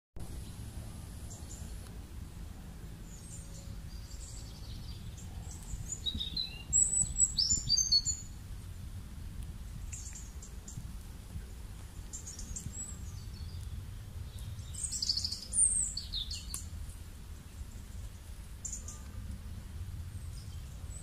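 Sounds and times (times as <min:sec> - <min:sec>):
small birds chirping: 0:00.2 - 0:08.7, 0:09.4 - 0:21.0
low outdoor rumble: 0:00.2 - 0:21.0.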